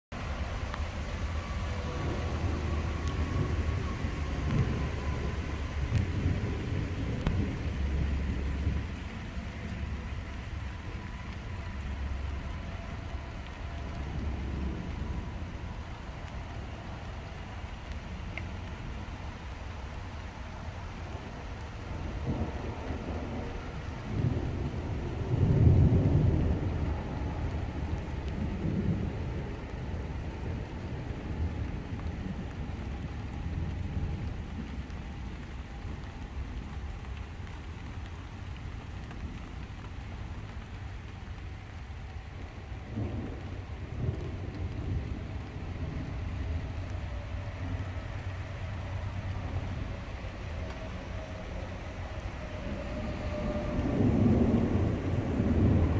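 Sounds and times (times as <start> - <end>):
steady rain: 0.1 - 55.9
rumbling thunder: 0.6 - 19.1, 21.8 - 55.9.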